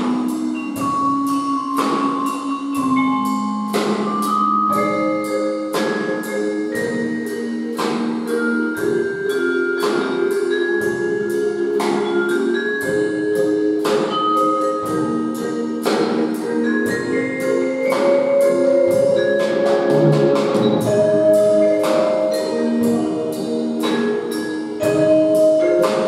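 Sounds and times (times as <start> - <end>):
drum kit beat: 0.0 - 26.0
low keyboard chords: 0.0 - 26.0
xylophone notes: 0.0 - 26.0.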